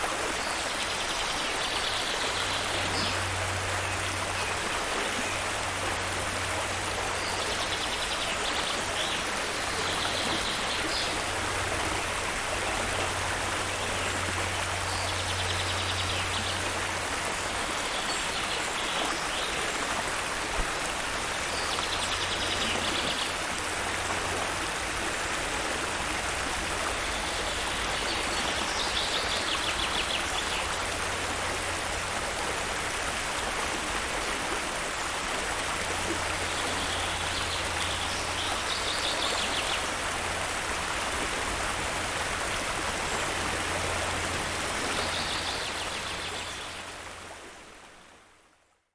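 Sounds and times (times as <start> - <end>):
stream water rushing: 0.0 - 48.7.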